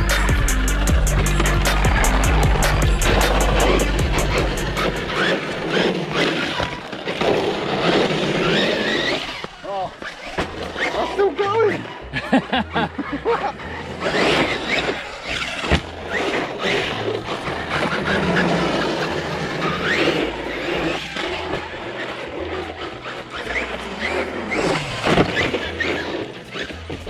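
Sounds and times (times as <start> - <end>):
electric motor whining: 0.0 - 27.0
tyres scrubbing and squealing: 0.0 - 27.0.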